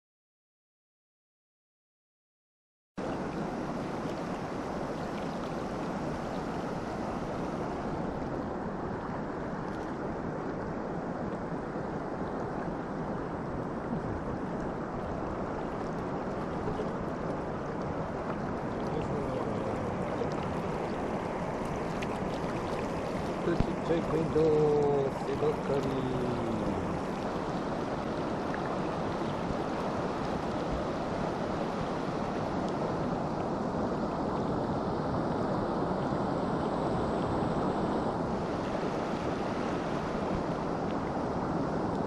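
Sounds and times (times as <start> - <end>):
river water rushing: 3.0 - 42.0.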